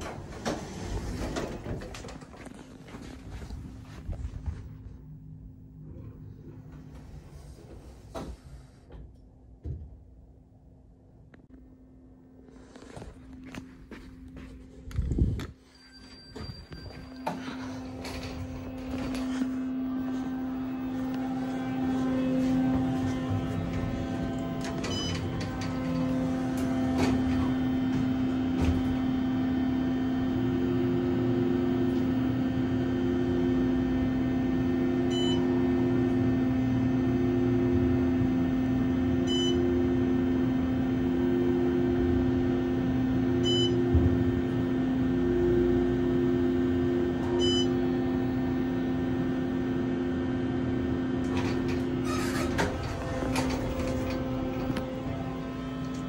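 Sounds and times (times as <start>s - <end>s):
elevator low hum: 0.0s - 56.0s.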